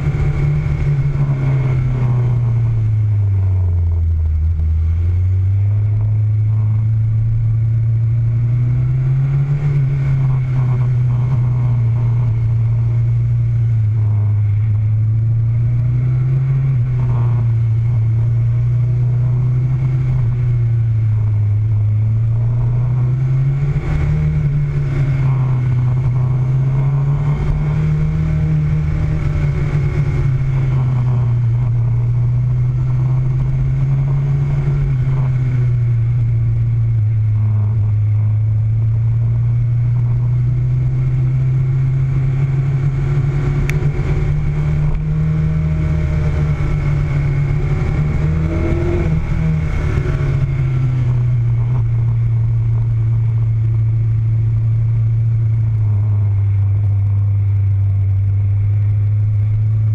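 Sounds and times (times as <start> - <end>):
motorcycle engine running: 0.0 - 59.9
steady rushing noise: 0.0 - 59.9.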